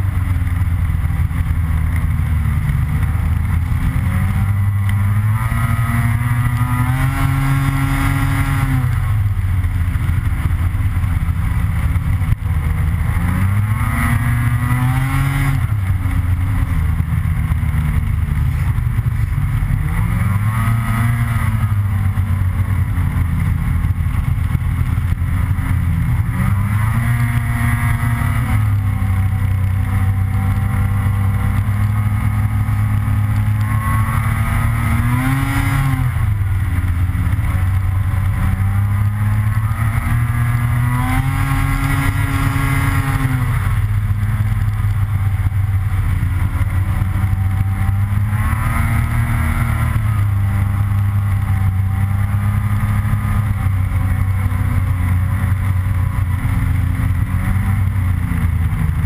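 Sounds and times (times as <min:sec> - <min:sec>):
snowmobile engine accelerating: 0:00.0 - 0:59.0.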